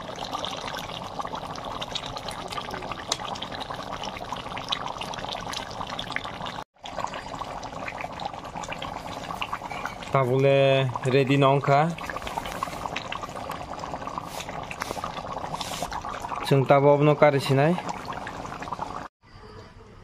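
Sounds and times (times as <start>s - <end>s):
curry bubbling in a pan: 0.0s - 19.1s.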